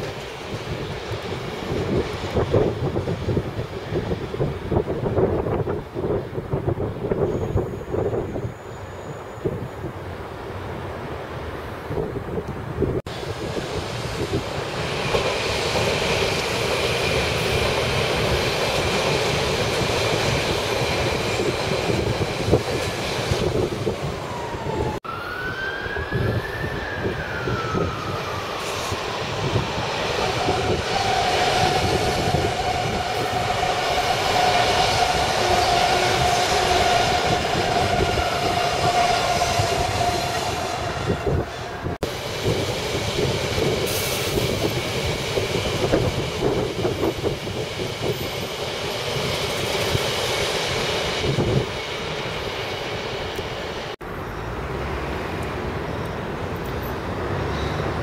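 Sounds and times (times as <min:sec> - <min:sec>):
train wheels on rails: 0:00.0 - 0:25.0, 0:26.0 - 0:58.0.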